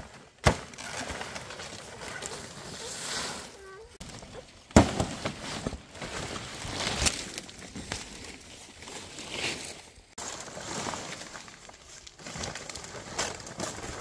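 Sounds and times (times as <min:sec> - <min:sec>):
palm leaves rustling: 0:00.0 - 0:14.0.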